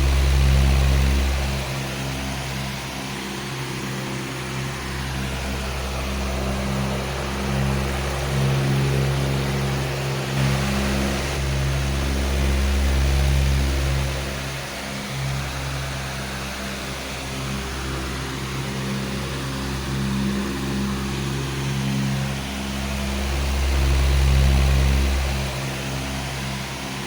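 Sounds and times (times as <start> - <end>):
electric fan running: 0.0 - 27.0.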